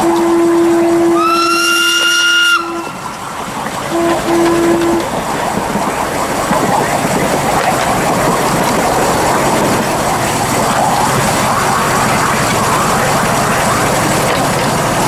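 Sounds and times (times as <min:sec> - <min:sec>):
miniature train running on track: 0:00.0 - 0:15.0.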